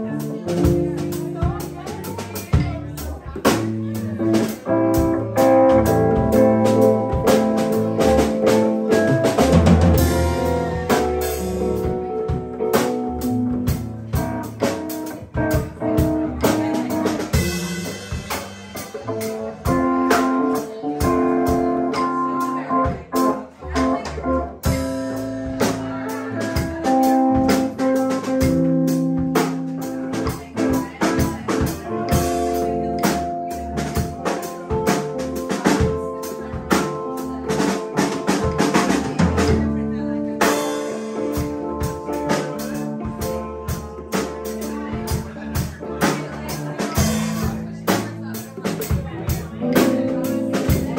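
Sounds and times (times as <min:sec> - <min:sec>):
drum kit beat: 0:00.0 - 0:50.9
guitar melody: 0:00.0 - 0:50.9.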